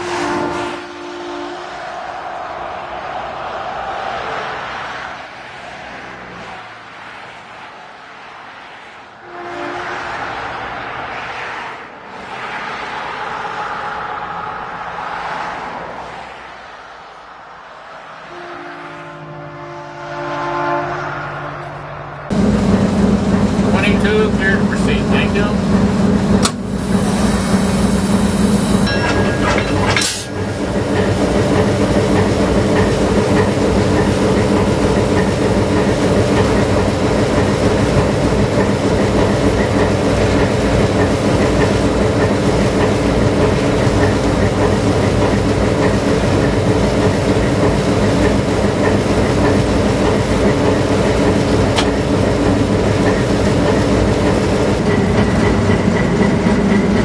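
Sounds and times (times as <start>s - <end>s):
diesel locomotive engine running: 0.0s - 57.0s
wheel and rail noise: 0.0s - 57.0s.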